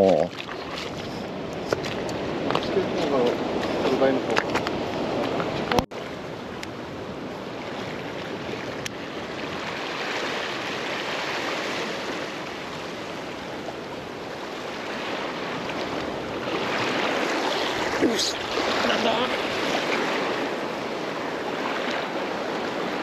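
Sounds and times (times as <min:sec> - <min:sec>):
small waves splashing over reef: 0:00.0 - 0:23.0.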